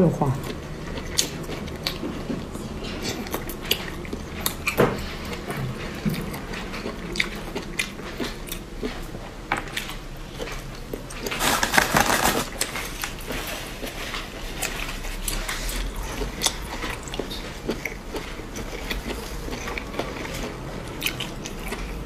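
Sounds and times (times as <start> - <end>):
chewing and mouth smacking: 0.3 - 22.0.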